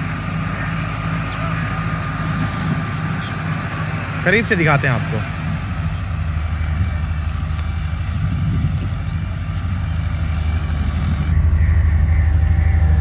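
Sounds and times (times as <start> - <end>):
thresher machine drone: 0.0 - 13.0.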